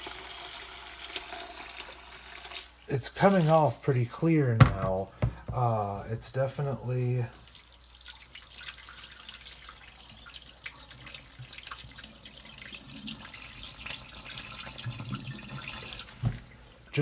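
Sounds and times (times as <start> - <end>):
water splashing in a sink: 0.0 - 5.5, 7.3 - 17.0.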